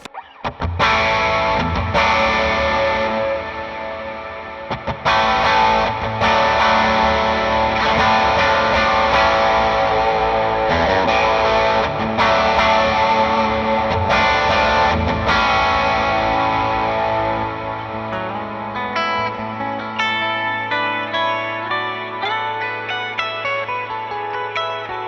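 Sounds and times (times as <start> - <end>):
overdriven electric guitar chords: 0.0 - 25.0.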